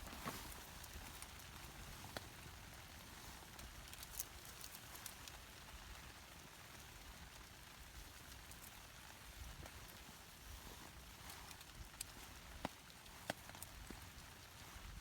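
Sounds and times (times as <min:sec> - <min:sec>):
freezing rain pattering: 0:00.0 - 0:15.0.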